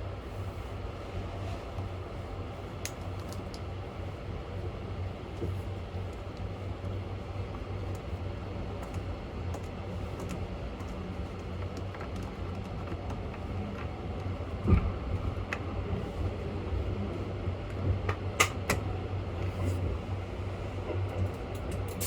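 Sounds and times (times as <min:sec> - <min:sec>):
train interior hum: 0:00.0 - 0:22.0.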